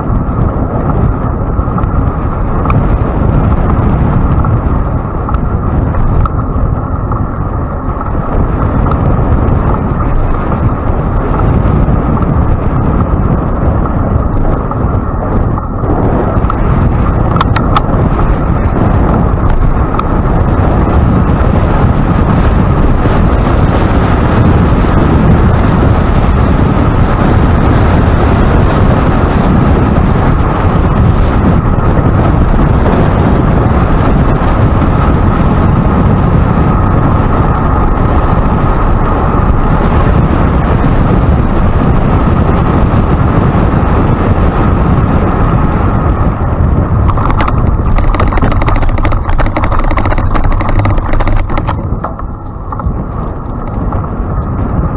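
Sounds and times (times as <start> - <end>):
bicycle tyres rolling on pavement: 0.0 - 54.9
wind buffeting microphone: 0.0 - 54.9.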